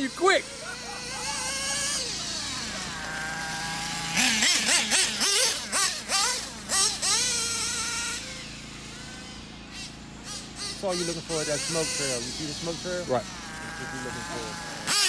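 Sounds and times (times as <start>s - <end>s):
model car engine revving whine: 0.0s - 15.0s.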